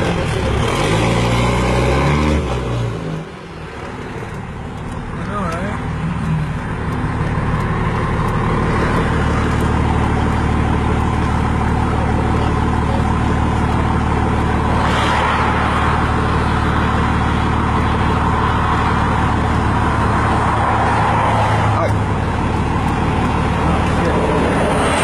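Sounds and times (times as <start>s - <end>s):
diesel locomotives passing: 3.2s - 25.0s.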